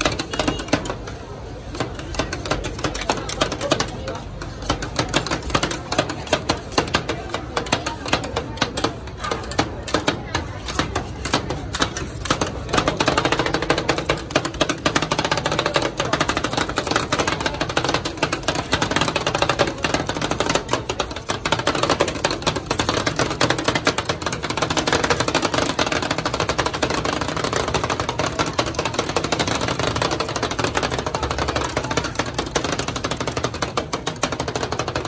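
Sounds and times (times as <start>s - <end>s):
metal spatulas chopping on metal plate: 0.0s - 35.0s.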